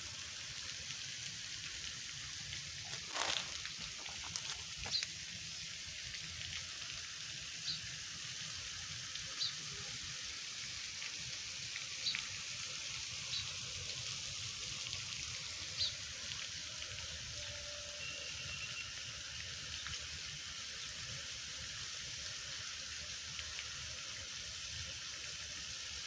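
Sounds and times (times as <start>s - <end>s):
running water hiss: 0.0s - 26.0s.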